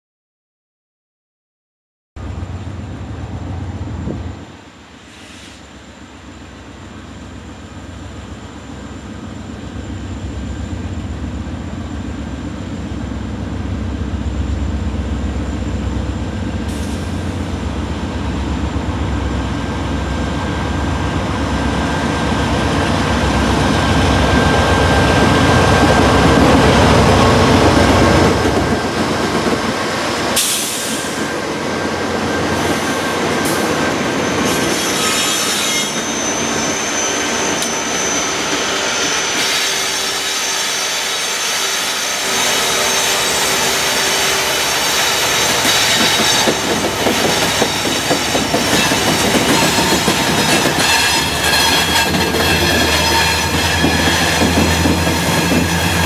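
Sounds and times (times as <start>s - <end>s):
diesel locomotive engine rumble: 2.2s - 56.0s
rail and wheel noise: 2.2s - 56.0s.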